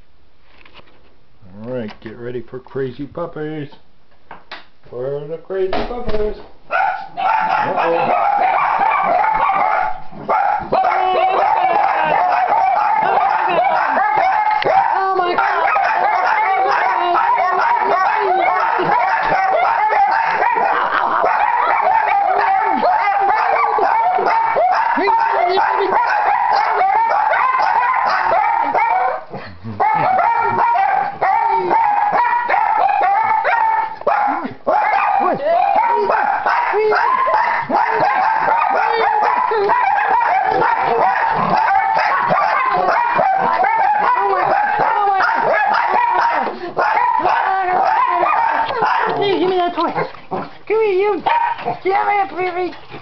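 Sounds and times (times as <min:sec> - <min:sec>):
puppies yipping and barking: 0:06.8 - 0:50.6, 0:51.2 - 0:53.0.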